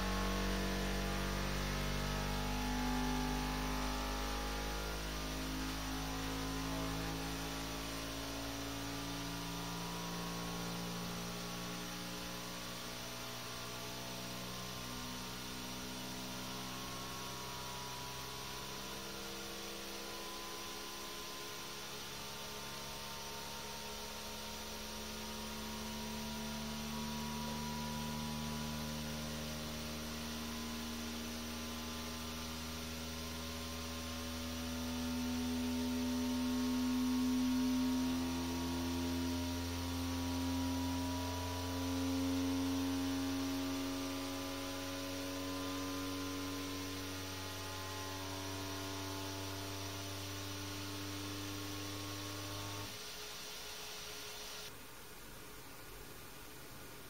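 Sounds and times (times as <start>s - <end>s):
machine hum: 0.0s - 54.8s.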